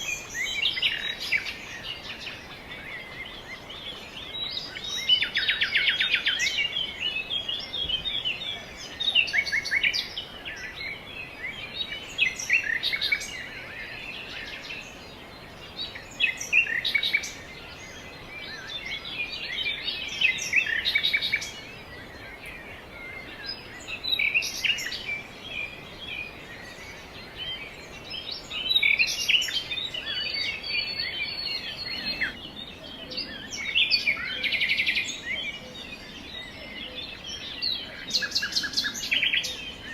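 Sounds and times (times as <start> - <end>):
songbirds chirping: 0.0 - 39.9
steady outdoor hiss: 0.0 - 39.9.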